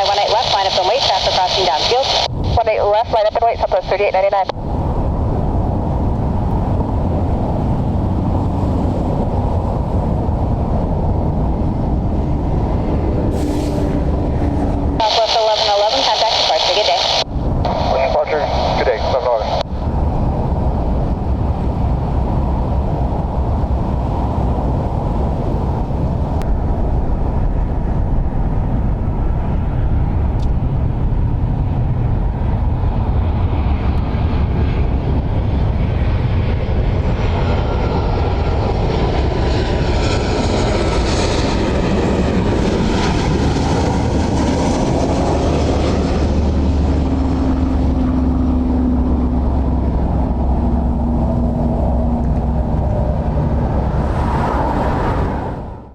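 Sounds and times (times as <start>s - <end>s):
jet airliner passing: 0.0s - 55.9s
jet engine whine: 0.0s - 55.9s
steady low hum: 0.0s - 55.9s.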